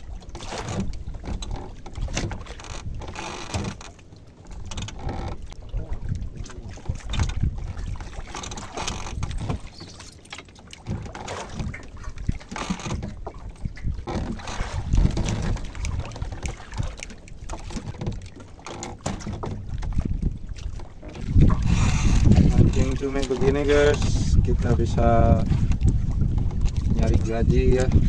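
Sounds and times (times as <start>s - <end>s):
wind rumbling on microphone: 0.0s - 10.2s, 10.8s - 28.0s
water moving around boat: 0.0s - 28.0s
water splashing: 0.0s - 28.0s.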